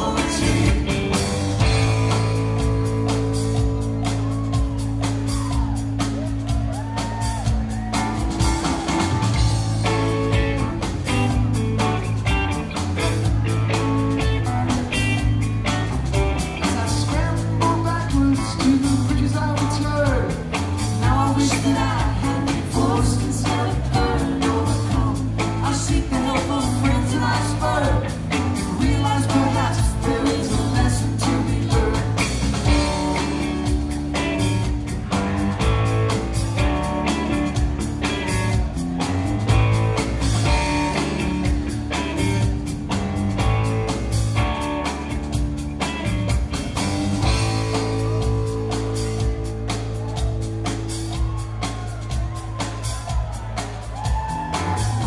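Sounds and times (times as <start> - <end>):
rock song with singing: 0.0 - 55.0.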